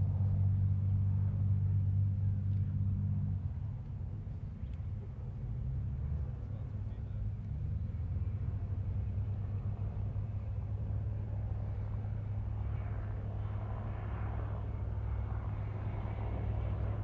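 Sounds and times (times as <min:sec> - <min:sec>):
helicopters flying past: 0:00.0 - 0:17.0.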